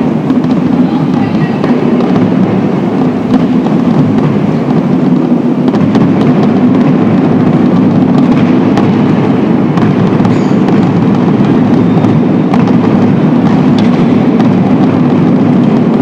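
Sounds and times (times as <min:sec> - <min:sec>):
marching band bass drums: 0:00.0 - 0:16.0
sharp distortion clicks: 0:00.0 - 0:16.0.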